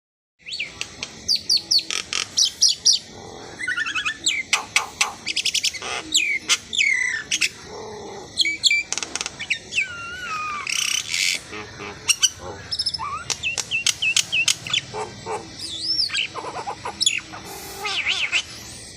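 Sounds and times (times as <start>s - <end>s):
starling singing: 0.4s - 18.9s.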